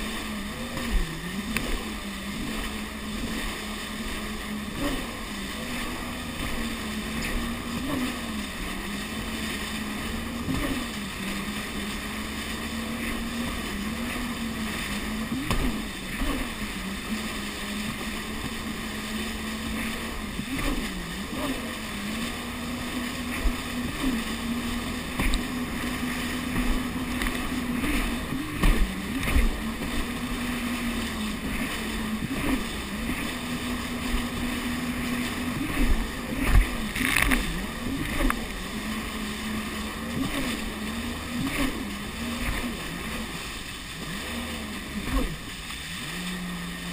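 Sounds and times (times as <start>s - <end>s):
jet ski engine running: 0.0s - 46.9s.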